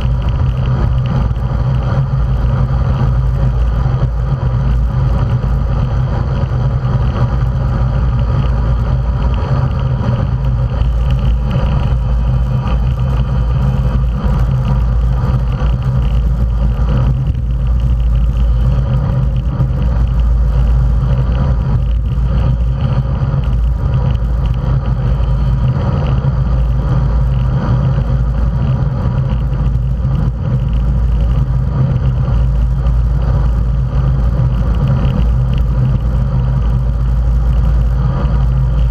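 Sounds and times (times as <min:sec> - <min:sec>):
wind and road noise rushing: 0:00.0 - 0:38.9.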